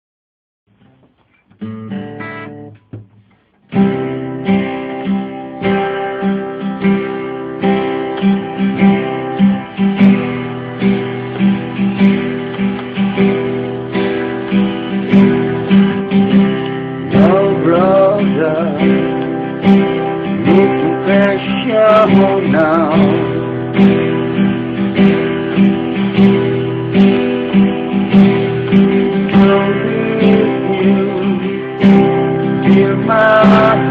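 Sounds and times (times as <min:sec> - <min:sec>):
guitars playing: 0:00.7 - 0:33.9
bending gliding guitar melody: 0:00.8 - 0:33.9.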